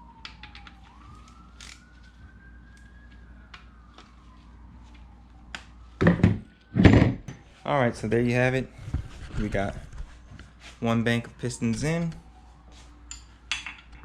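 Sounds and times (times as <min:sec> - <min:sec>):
distant siren wailing: 0:00.0 - 0:14.0.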